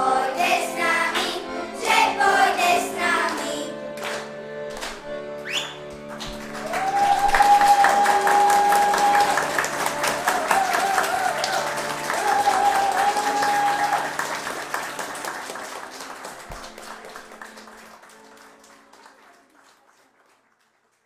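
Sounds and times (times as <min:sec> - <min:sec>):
folk band playing: 0:00.0 - 0:18.9
audience applauding: 0:04.0 - 0:21.0.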